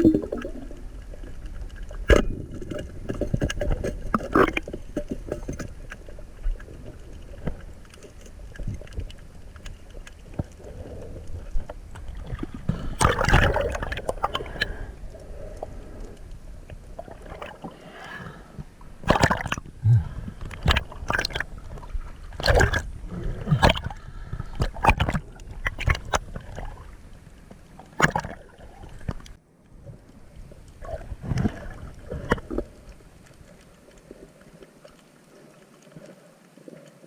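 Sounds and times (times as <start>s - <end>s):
water splashes: 0.0s - 30.1s
sea water sloshing and gurgling: 0.0s - 37.0s.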